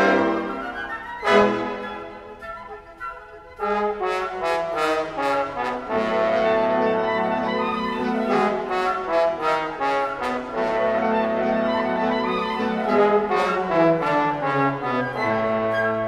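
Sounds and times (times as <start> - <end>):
orchestra with loud brass: 0.0 - 16.0.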